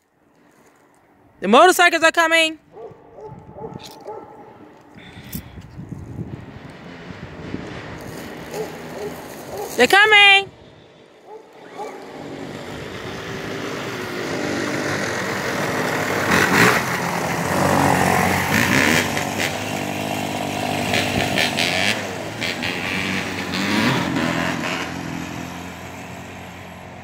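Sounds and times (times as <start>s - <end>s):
dirt bike engines revving: 2.8s - 27.0s.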